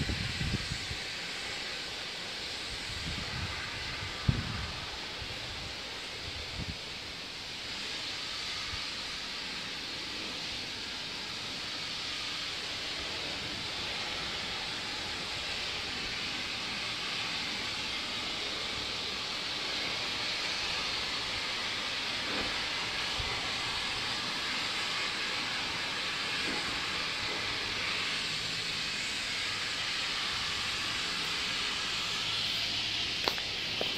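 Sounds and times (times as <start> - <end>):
sandblasting nozzle hissing: 0.0 - 33.9.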